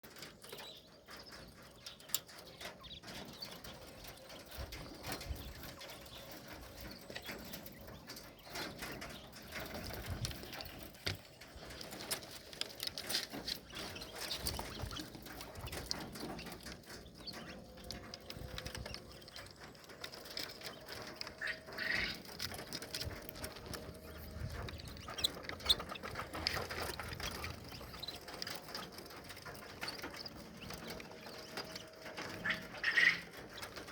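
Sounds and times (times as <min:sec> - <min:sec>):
quail chirping and calling: 0:00.1 - 0:33.9.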